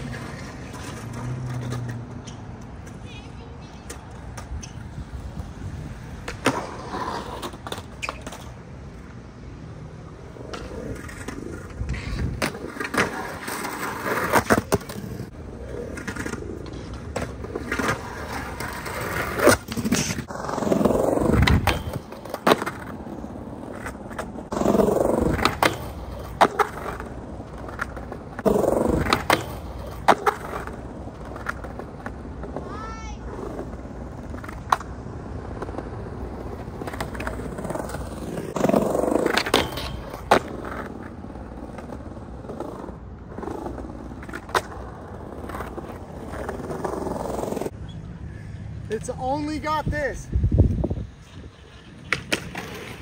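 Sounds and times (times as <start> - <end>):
skateboard grinding scrapes: 0.0 - 3.8, 6.4 - 8.6, 10.3 - 47.8
skateboard clacks: 0.0 - 9.2, 10.3 - 47.8, 50.7 - 53.0
skateboards rolling on concrete: 0.0 - 53.0.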